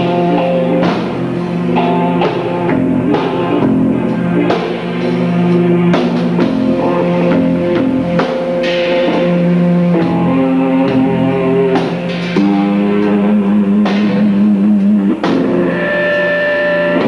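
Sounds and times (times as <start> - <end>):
drum kit beat: 0.0 - 17.0
electric guitars holding chords: 0.0 - 17.0.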